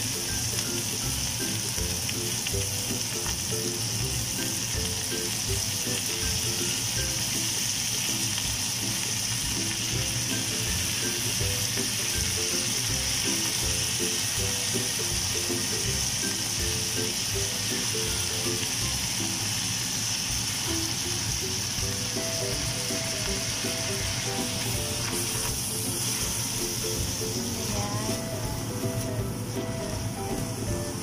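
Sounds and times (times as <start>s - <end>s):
plucked background music: 0.0s - 19.8s, 20.4s - 31.0s
meat sizzling in a wok: 0.0s - 31.0s.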